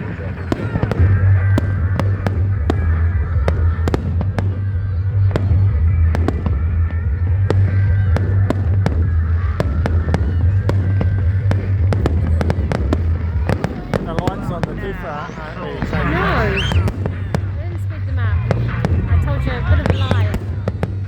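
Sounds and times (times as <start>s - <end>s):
fireworks bangs and cracks: 0.0s - 21.0s
low rumble: 0.0s - 21.0s.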